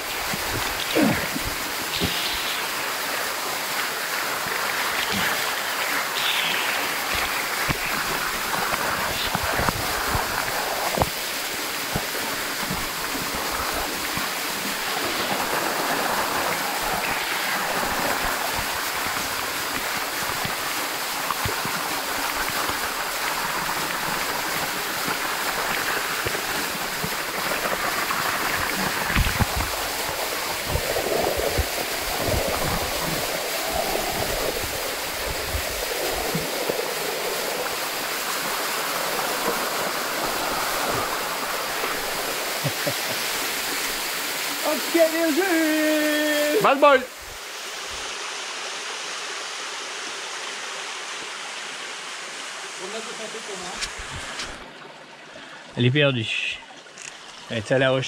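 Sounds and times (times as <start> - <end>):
waterfall pouring into pool: 0.0 - 58.0.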